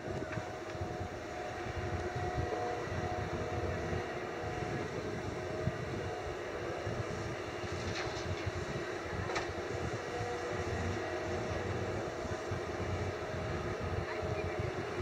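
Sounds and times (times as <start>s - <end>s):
excavator diesel engine under load: 0.0s - 15.0s.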